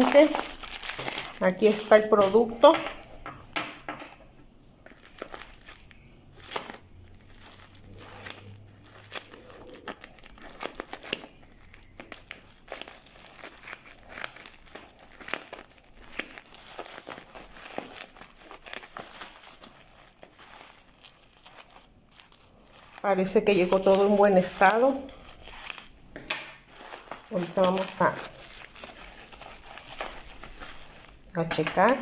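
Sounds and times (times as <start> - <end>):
bubble wrap crinkling: 0.0 - 32.0.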